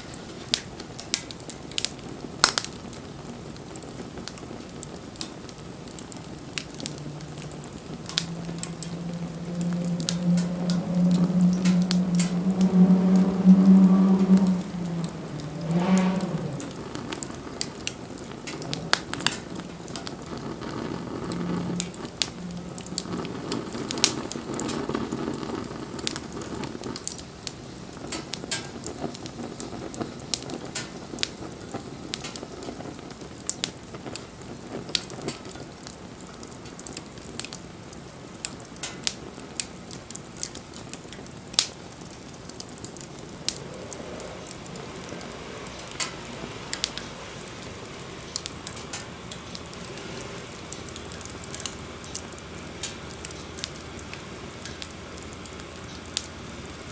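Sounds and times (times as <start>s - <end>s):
low rushing hiss of burning wood: 0.0s - 56.9s
sharp pops from fire: 0.0s - 56.9s
wood fire crackling: 0.0s - 56.9s.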